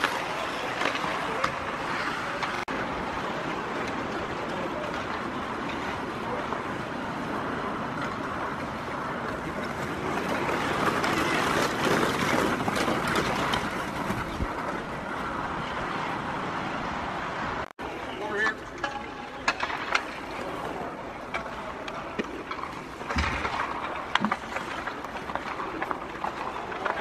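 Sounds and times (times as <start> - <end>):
hockey sticks and puck clacking: 0.0 - 14.9, 18.0 - 27.0
ice skates scraping: 0.0 - 16.8, 18.0 - 27.0.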